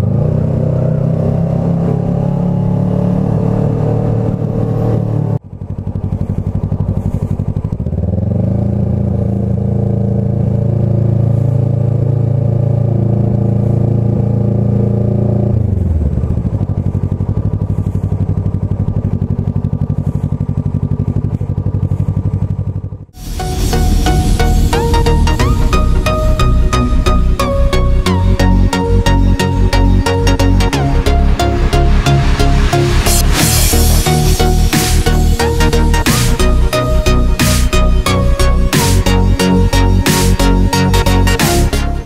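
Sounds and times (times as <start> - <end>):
motorcycle engine while riding: 0.0 - 42.0.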